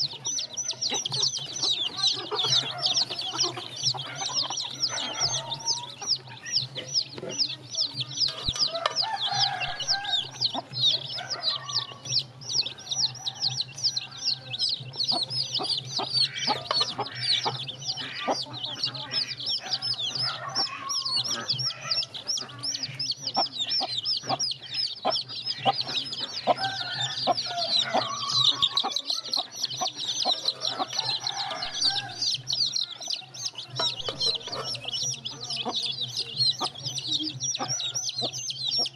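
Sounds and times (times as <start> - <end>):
beaks pecking on concrete: 0.0 - 38.9
chicks peeping: 0.0 - 38.9
hens clucking: 0.0 - 38.9.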